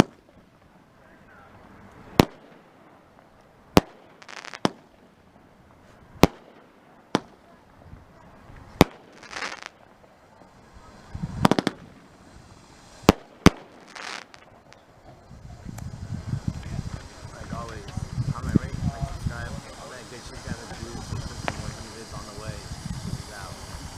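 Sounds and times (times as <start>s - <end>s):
fireworks shells bursting: 0.0s - 0.6s, 1.9s - 5.1s, 6.2s - 7.4s, 8.6s - 23.9s
fireworks hissing and crackling: 0.0s - 23.9s.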